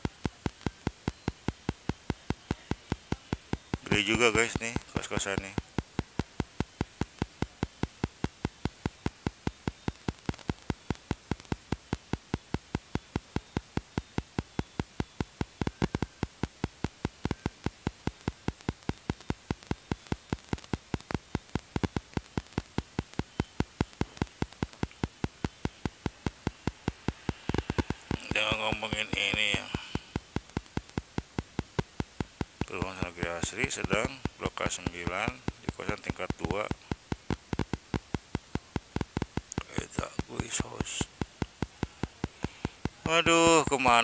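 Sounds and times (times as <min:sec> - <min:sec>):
faint steady hiss: 0:00.0 - 0:44.0
rapid static clicking: 0:00.0 - 0:44.0.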